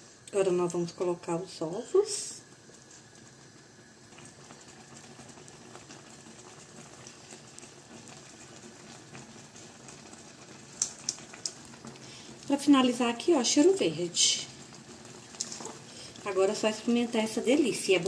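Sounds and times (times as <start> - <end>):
sauce bubbling in a pan: 0.0 - 18.0.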